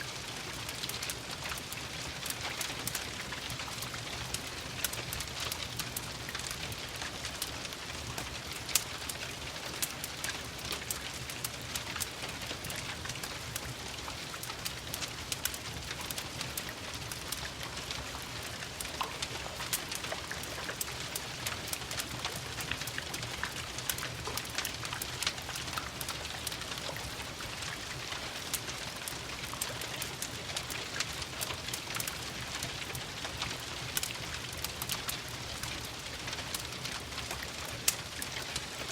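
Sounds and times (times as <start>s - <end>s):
steady rain: 0.0s - 38.9s
wood fire crackling: 0.0s - 38.9s.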